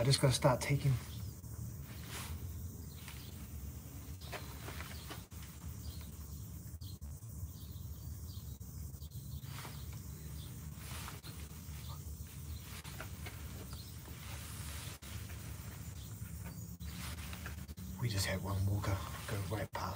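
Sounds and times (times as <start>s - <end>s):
faint rustles and ticks: 0.0s - 19.9s.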